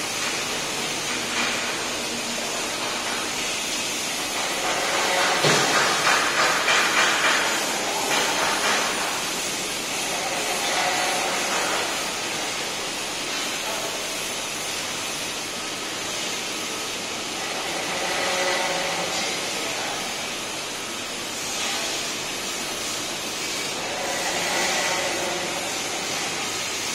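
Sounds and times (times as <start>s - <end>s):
laser cutting machine hiss: 0.0s - 26.9s.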